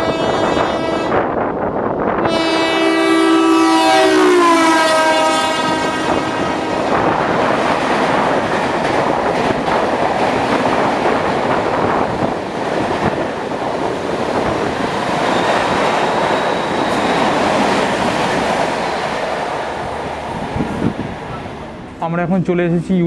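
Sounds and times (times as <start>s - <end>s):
train running noise: 0.0s - 23.0s.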